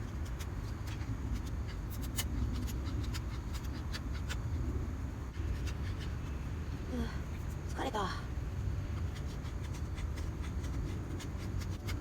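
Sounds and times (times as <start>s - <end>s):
knife scraping wood: 0.0s - 6.7s, 8.8s - 12.0s.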